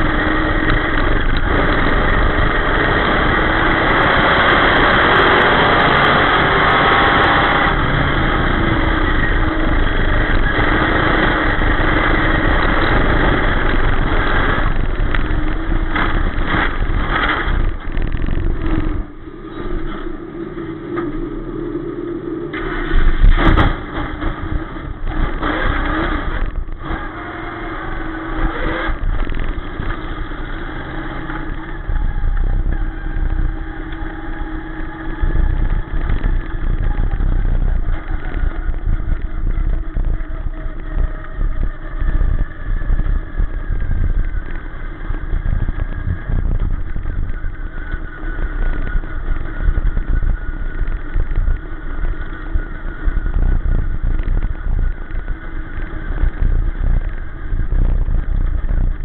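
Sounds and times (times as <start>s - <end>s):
race car engine from cockpit: 0.0s - 59.0s.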